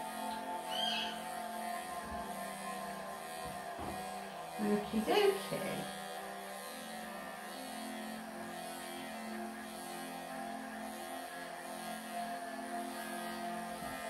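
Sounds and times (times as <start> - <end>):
electric clippers humming: 0.0 - 14.0.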